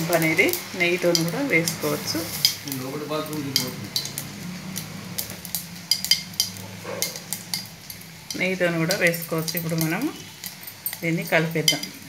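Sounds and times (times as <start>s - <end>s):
seeds crackling in hot oil: 0.0s - 12.0s
spoon tapping steel pan: 1.1s - 4.9s, 5.8s - 12.0s.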